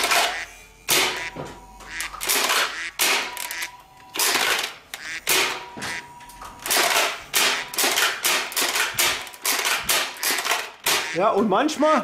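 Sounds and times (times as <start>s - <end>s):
toy gun pump clacks and puffs: 0.0s - 1.3s, 1.9s - 6.0s, 6.6s - 11.2s.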